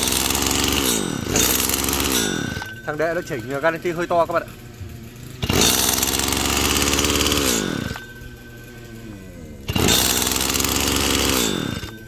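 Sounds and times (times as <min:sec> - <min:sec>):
brushcutter engine pull-started: 0:00.0 - 0:12.0.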